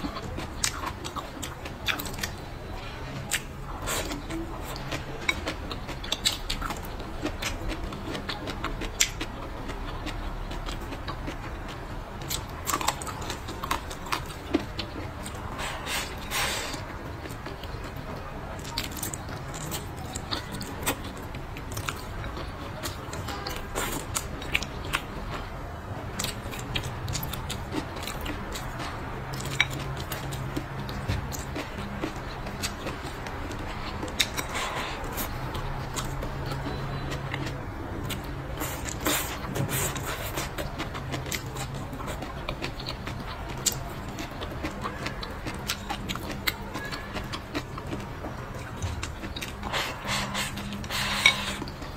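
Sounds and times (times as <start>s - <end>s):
chewing and biting: 0.0s - 51.9s.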